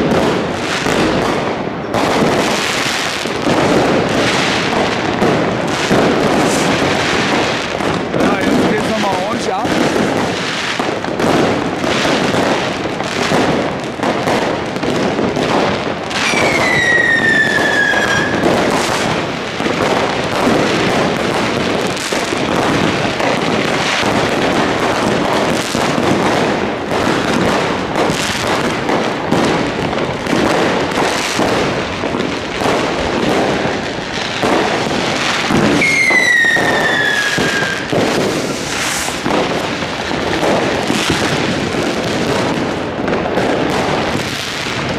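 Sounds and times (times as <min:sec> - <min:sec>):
fireworks and firecrackers banging: 0:00.0 - 0:44.9
whistling fireworks: 0:00.0 - 0:44.9.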